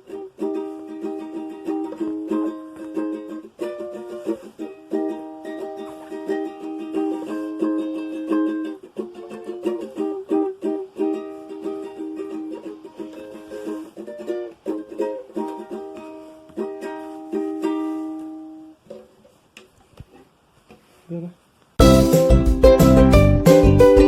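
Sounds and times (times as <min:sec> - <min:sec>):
acoustic guitar playing: 0:00.0 - 0:19.2, 0:21.8 - 0:24.0.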